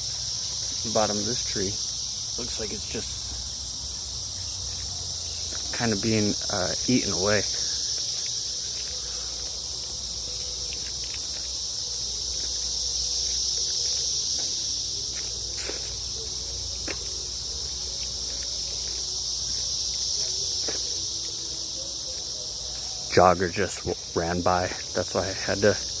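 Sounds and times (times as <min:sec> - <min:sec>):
cicadas droning: 0:00.0 - 0:26.0.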